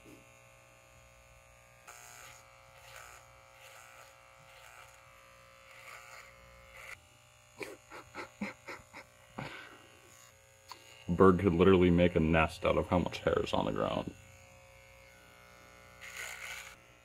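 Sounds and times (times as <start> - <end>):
electric beard clippers buzzing: 0.0 - 17.0.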